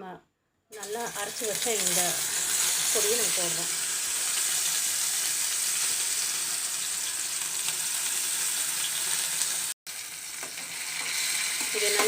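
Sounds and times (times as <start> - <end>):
paste sizzling in hot oil: 0.7 - 12.0.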